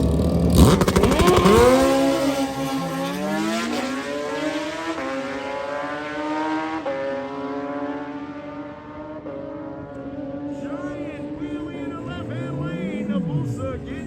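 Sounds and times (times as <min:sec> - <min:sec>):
motorcycle accelerating hard: 0:00.0 - 0:14.0.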